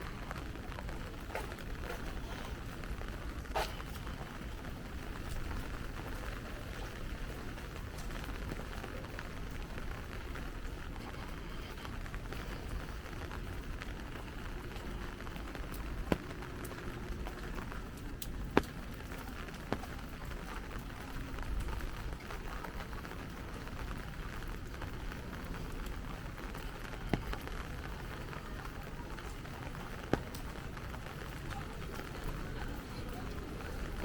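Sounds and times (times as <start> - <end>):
rain pattering on umbrella: 0.0 - 34.0.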